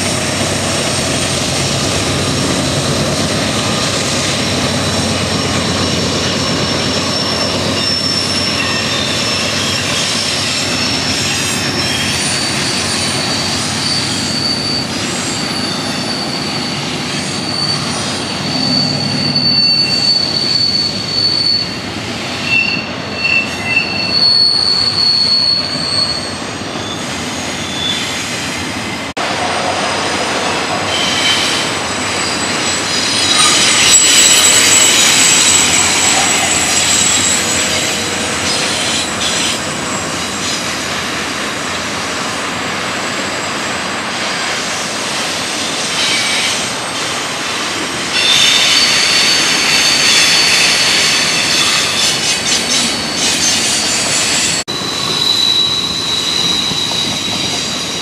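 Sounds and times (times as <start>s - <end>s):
freight train rumble: 0.0s - 58.0s
train wheels squealing: 0.9s - 28.8s, 30.4s - 47.3s, 48.0s - 58.0s.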